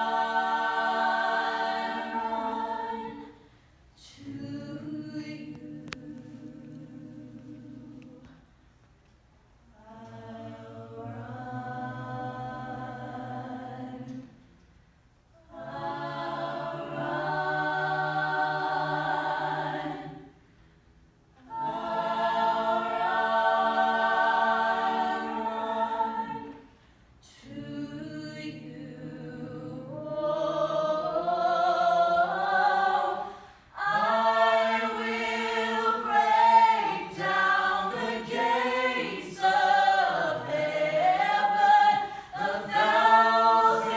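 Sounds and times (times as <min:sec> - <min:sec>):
a cappella choir singing: 0:00.0 - 0:08.8, 0:09.6 - 0:43.9.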